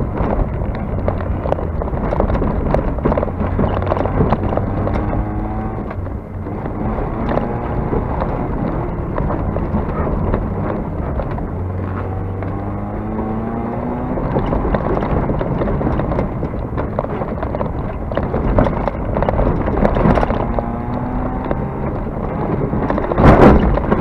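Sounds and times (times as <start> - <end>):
gravel clicks and rattles: 0.0 - 24.0
race car engine at speed: 0.0 - 24.0.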